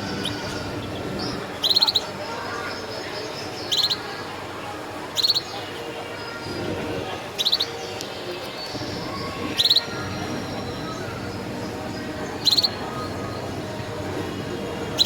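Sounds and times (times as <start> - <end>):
canaries chirping: 0.0 - 4.1, 5.1 - 5.8, 6.4 - 15.0
murmur of background voices: 0.0 - 15.0.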